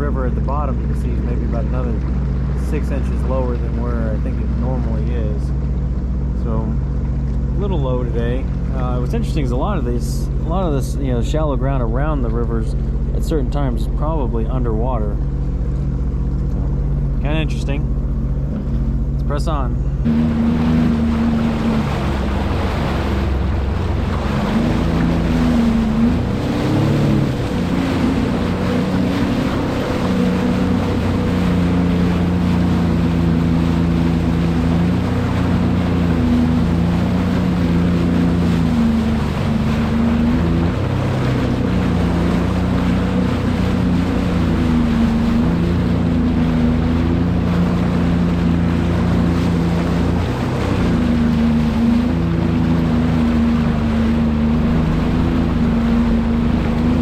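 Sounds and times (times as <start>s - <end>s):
personal watercraft engine: 0.0s - 57.0s.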